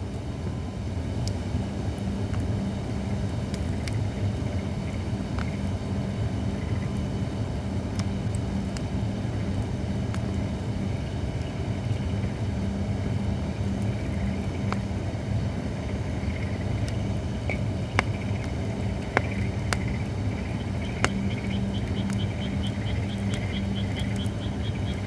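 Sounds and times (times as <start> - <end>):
low background hum: 0.0 - 25.0
campfire crackling and popping: 0.4 - 25.0.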